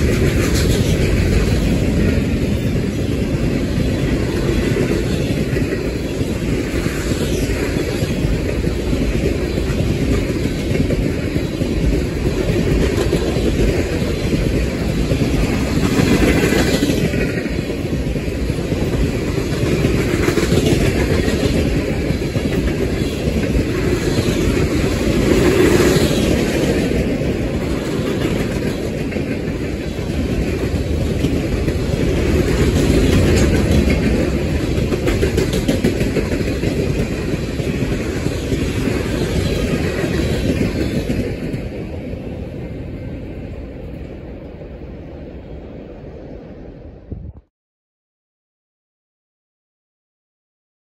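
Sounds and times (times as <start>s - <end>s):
train wheels rumbling on rails: 0.0s - 47.5s.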